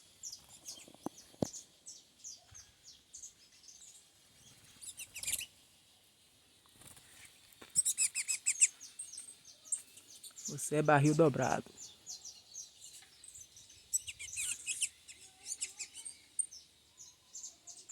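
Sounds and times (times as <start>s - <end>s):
small songbirds chirping: 0.0s - 17.9s.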